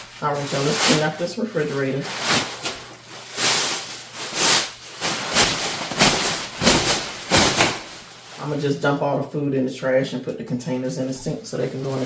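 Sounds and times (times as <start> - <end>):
rustling and scraping: 0.0 - 8.8, 11.0 - 12.0.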